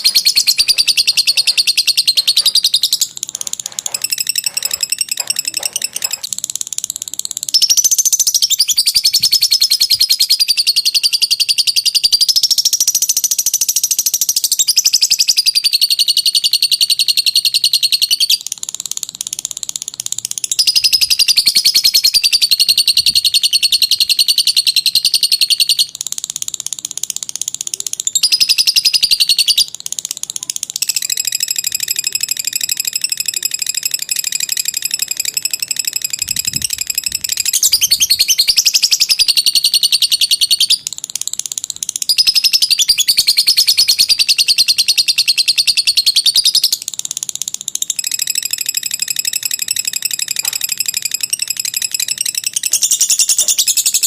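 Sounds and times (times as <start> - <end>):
lovebird chattering trill: 0.0 - 54.0.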